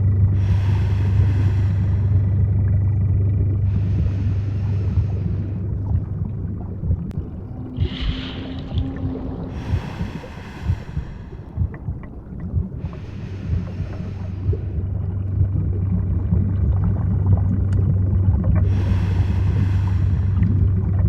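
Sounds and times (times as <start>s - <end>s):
low thumps: 0.0s - 21.0s
low underwater rumble: 0.0s - 21.0s.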